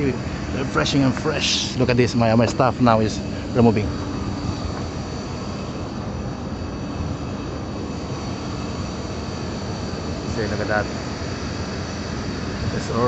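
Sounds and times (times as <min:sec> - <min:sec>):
even rushing noise: 0:00.0 - 0:13.0
machine hum: 0:00.0 - 0:13.0.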